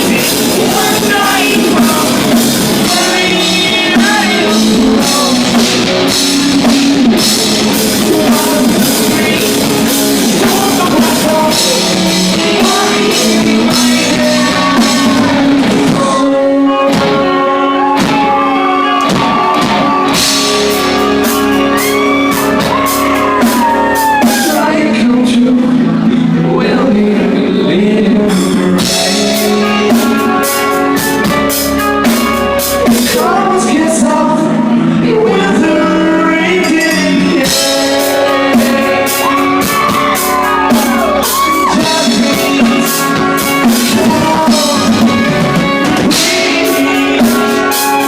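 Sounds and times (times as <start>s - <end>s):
bass guitar: 0.0s - 48.0s
drums: 0.0s - 48.0s
electric guitars: 0.0s - 48.0s
person singing: 0.0s - 48.0s.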